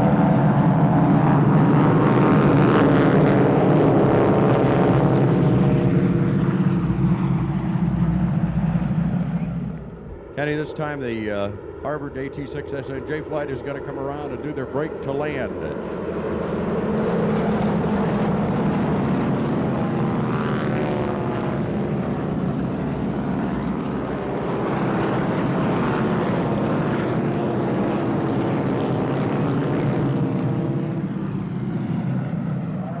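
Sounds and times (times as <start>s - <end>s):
propeller planes droning past: 0.0s - 33.0s.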